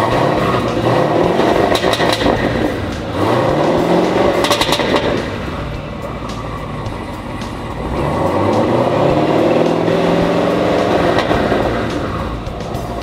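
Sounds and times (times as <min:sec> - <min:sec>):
car engine revving from idle: 0:00.0 - 0:13.0.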